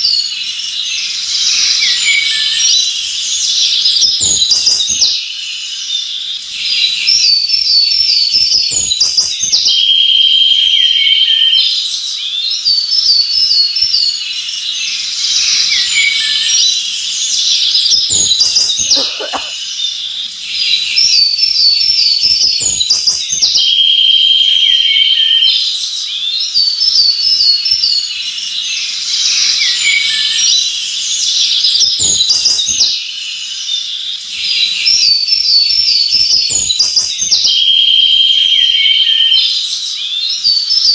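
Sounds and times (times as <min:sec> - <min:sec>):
birds singing: 0:00.0 - 0:40.9.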